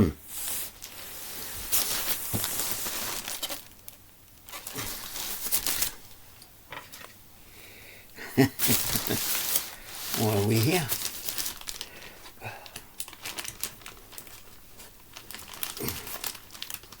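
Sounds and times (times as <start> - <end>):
rustling crinkling handling noise: 0.3 - 7.2, 8.4 - 17.0.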